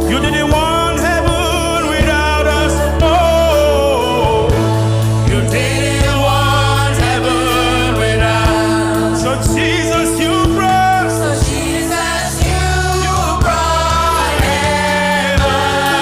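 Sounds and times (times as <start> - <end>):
band with bass and drums: 0.0 - 16.0
voices singing gospel: 0.0 - 16.0.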